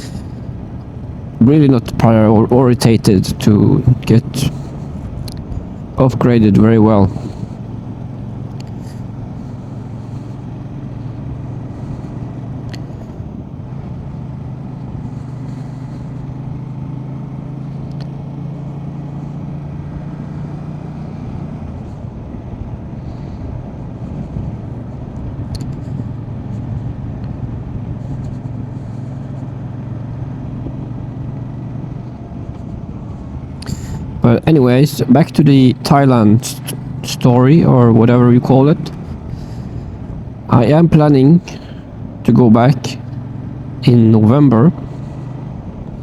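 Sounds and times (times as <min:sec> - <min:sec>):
motorcycle engine running: 0:00.0 - 0:46.0
road and wind noise: 0:00.0 - 0:46.0.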